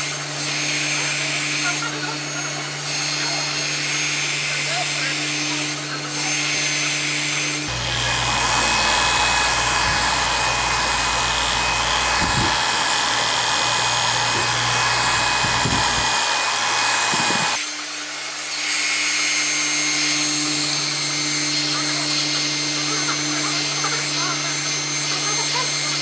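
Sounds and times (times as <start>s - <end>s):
electric hair clippers humming: 0.0s - 26.0s.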